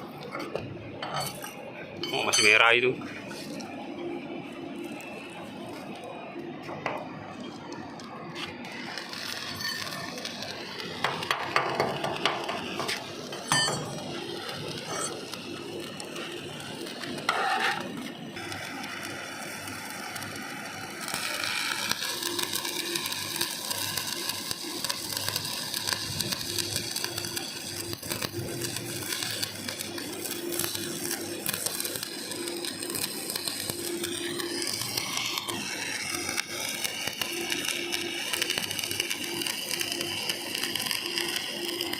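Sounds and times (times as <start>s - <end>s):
welding arc crackling: 0.0s - 41.9s.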